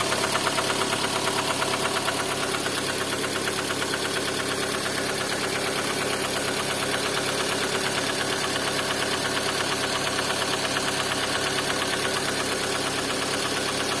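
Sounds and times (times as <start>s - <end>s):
car engine running: 0.0s - 14.0s
rapid engine knock: 0.0s - 14.0s.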